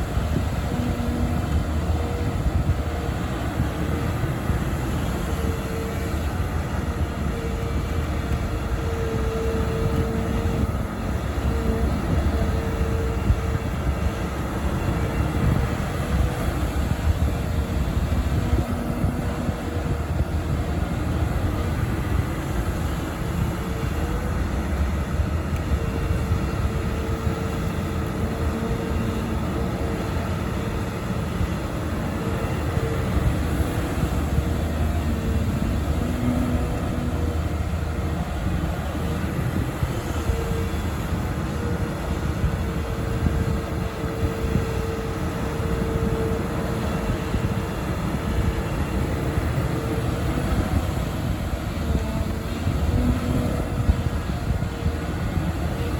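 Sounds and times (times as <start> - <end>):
excavator diesel engine rumbling: 0.0 - 55.9
high whine: 0.0 - 55.9.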